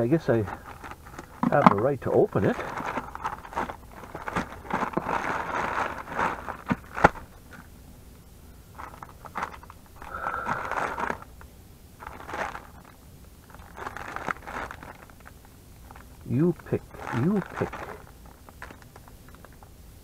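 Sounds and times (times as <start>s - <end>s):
plastic packaging rustling: 0.0s - 7.7s, 8.7s - 19.7s.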